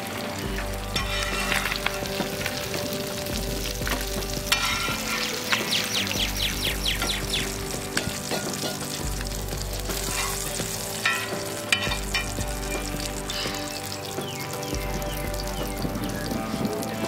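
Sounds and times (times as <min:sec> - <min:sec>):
fish sizzling in hot oil: 0:00.0 - 0:17.0
oil popping: 0:00.0 - 0:17.0.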